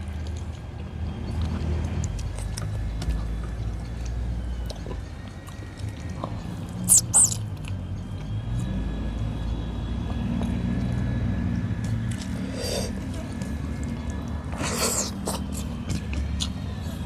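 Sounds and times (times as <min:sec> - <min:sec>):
chewing with wet mouth clicks: 0:00.0 - 0:09.3, 0:10.0 - 0:17.0.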